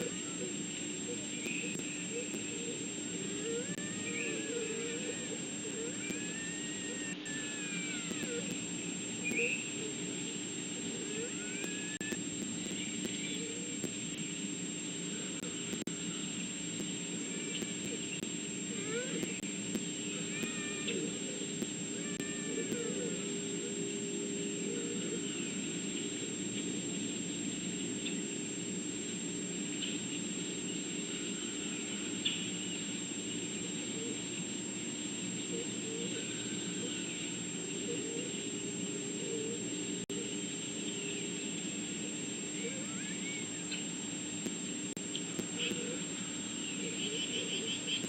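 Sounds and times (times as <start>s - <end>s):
outdoor background noise: 0.0s - 48.0s
thin high whine: 0.0s - 48.0s.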